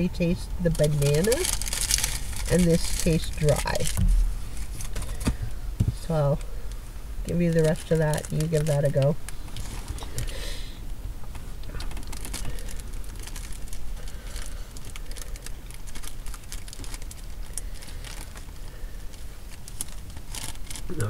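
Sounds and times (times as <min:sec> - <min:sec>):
low steady hum: 0:00.0 - 0:21.0
paper wrapping crinkling: 0:00.7 - 0:05.4, 0:07.3 - 0:10.4, 0:11.5 - 0:20.9.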